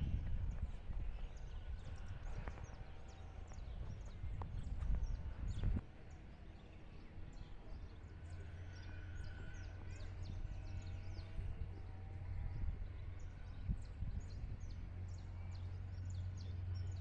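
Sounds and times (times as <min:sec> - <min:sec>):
wind rumbling on microphone: 0:00.0 - 0:06.2, 0:07.0 - 0:17.0.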